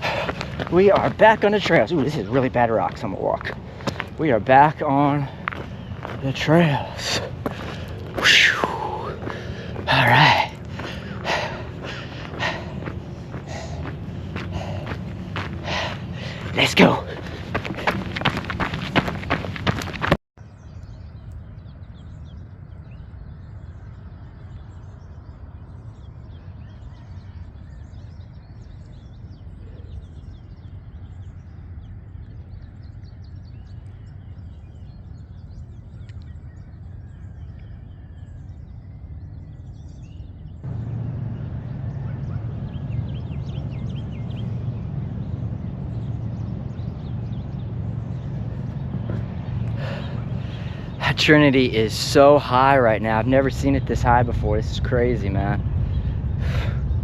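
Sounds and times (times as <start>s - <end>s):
steady low rushing noise: 0.0s - 20.2s, 21.4s - 57.0s
birds chirping: 0.0s - 57.0s.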